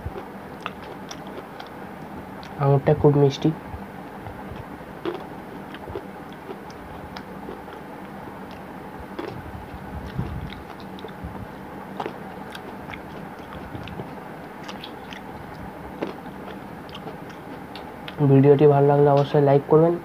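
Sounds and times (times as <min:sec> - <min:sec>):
person chewing grapes: 0:00.0 - 0:02.6, 0:04.4 - 0:18.2
faint low hum: 0:00.0 - 0:20.0.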